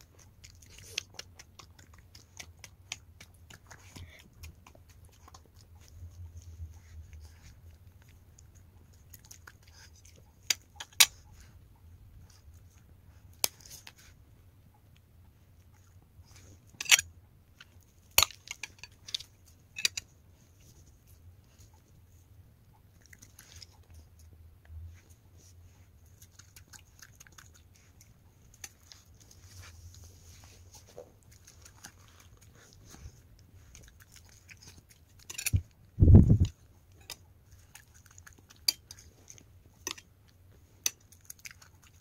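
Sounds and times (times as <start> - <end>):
dog chewing with wet smacking: 0.0 - 42.0.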